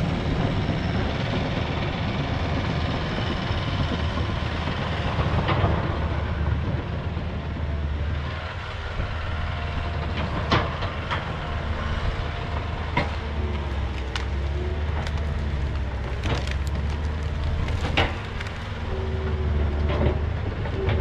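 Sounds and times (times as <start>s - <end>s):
dozer diesel engine running: 0.0s - 21.0s.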